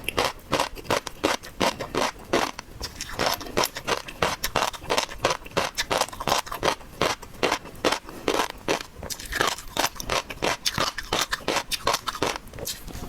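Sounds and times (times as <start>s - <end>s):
crunchy chewing of seafood: 0.0s - 13.0s.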